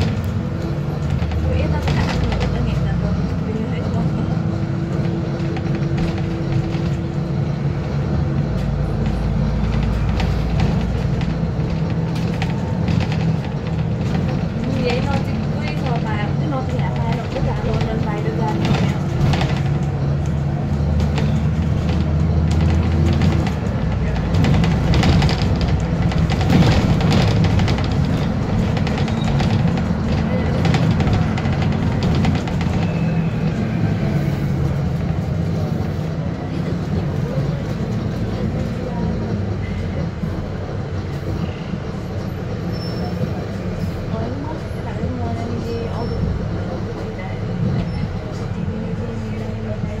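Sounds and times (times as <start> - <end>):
bus engine low drone: 0.0 - 50.0
bus engine whine: 0.0 - 50.0.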